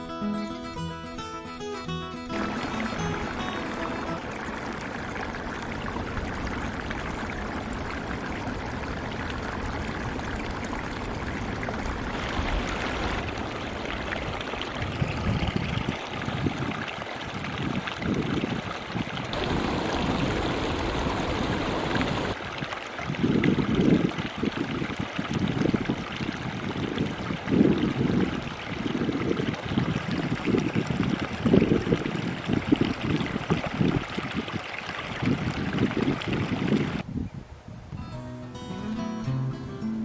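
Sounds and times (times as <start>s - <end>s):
stream trickling over rocks: 2.2s - 37.1s
wind gusts buffeting microphone: 5.5s - 38.0s.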